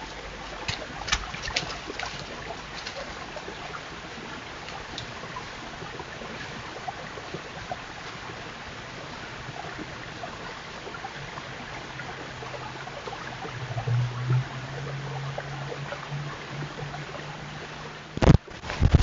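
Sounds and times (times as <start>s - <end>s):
low steady hum: 0.0s - 19.0s
steady outdoor hiss: 0.0s - 19.0s.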